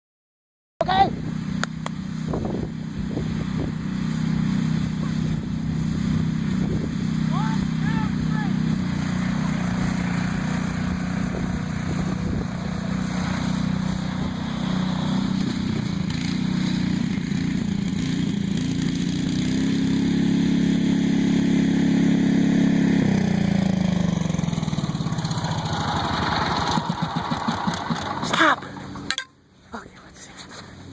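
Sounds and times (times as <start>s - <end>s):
lawnmower engine revving: 1.1s - 29.3s.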